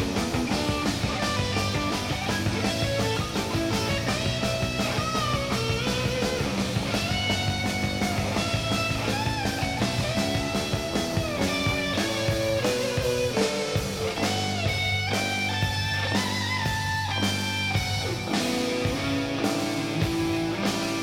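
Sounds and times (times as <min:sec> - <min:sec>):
bass guitar: 0:00.0 - 0:21.0
drum beat: 0:00.0 - 0:21.0
electric guitar bending notes: 0:00.0 - 0:21.0.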